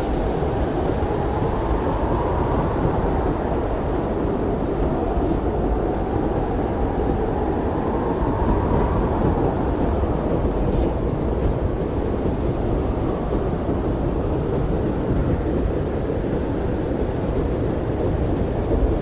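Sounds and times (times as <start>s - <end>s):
blizzard wind roaring: 0.0s - 19.0s.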